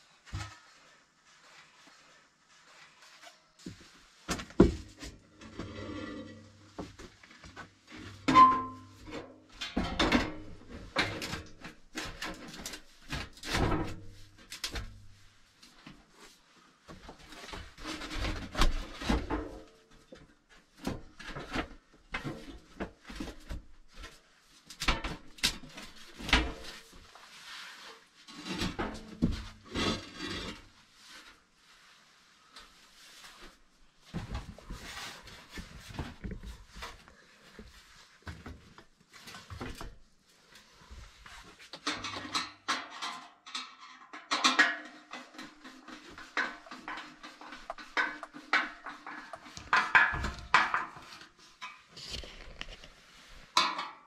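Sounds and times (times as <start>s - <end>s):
handling knocks and scraping: 0.0s - 54.0s.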